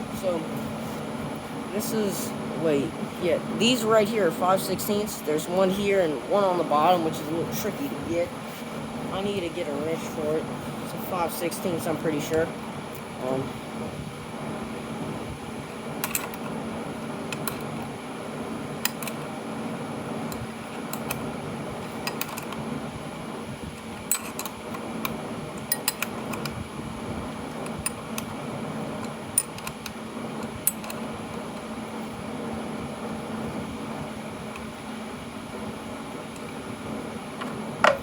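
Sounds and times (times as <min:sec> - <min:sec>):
fan-like hum: 0:00.0 - 0:38.0.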